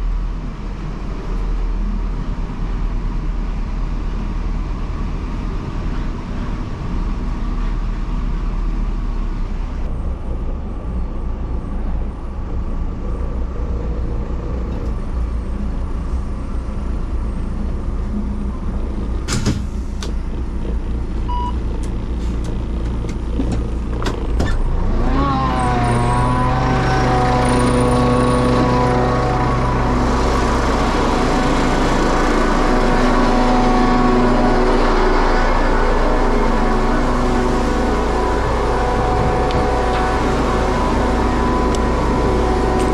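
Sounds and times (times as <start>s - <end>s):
diesel truck engine running: 0.0s - 42.9s.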